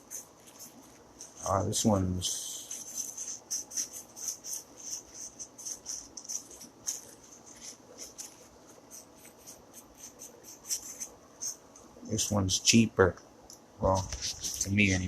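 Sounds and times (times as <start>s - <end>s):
rubbing strokes scrubbing heatsink: 0.0s - 12.4s.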